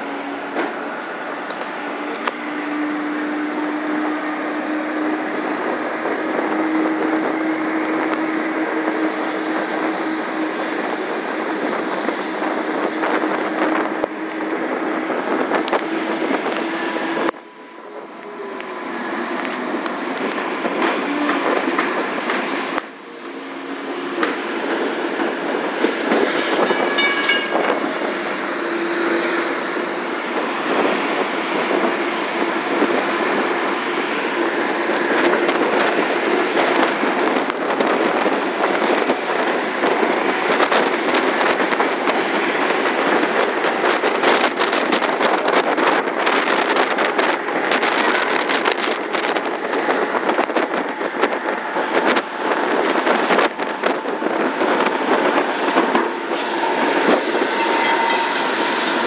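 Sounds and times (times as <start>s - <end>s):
train clicking and rattling: 0.0s - 59.0s
train wheel and wind noise: 0.0s - 59.0s.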